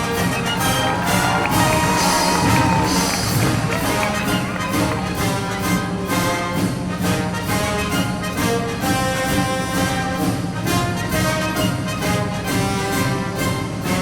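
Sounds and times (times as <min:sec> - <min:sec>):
orchestral music with brass: 0:00.0 - 0:14.0.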